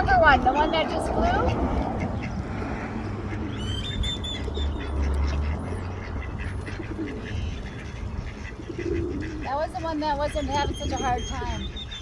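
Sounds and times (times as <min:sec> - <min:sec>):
ducks quacking: 0:00.0 - 0:12.0
low outdoor rumble: 0:00.0 - 0:12.0
small birds chirping: 0:00.0 - 0:12.0.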